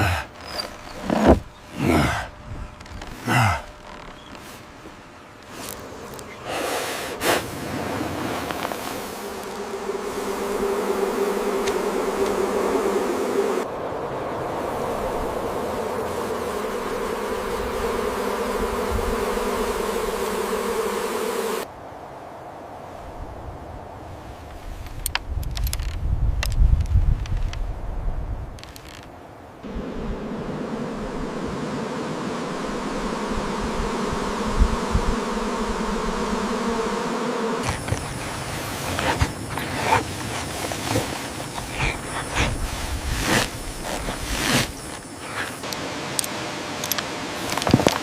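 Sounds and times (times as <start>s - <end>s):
bees buzzing: 0.0s - 21.7s, 29.6s - 48.0s
background hiss: 0.0s - 48.0s.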